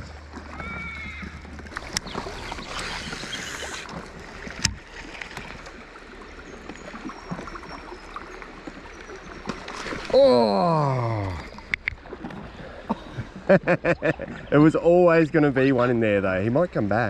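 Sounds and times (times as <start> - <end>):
river water trickling: 0.0 - 17.0.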